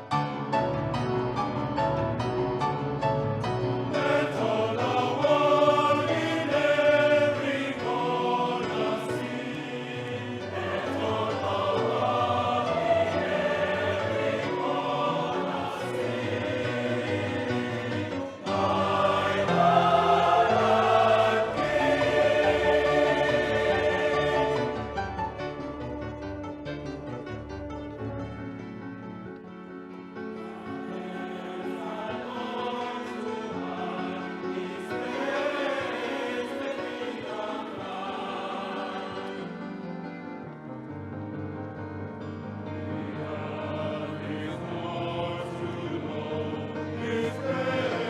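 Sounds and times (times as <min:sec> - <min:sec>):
choir singing sustained chords: 0:00.0 - 0:48.0.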